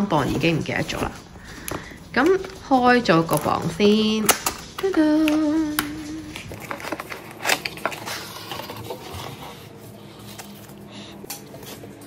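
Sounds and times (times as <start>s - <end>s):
packaging clicks scrapes and rustles: 0.3s - 12.0s.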